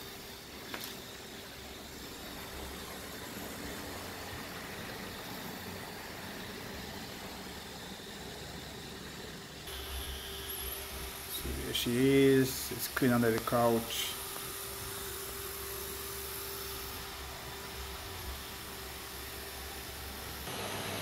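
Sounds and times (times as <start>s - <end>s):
robot vacuum motor whirring: 0.0s - 21.0s.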